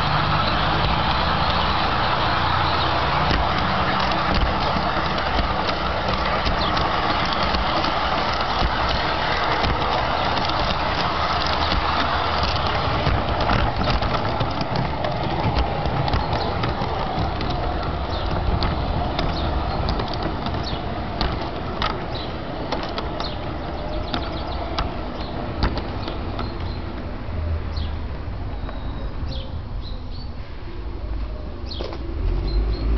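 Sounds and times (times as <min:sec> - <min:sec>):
sharp clicks of train wheels: 0:00.0 - 0:29.4.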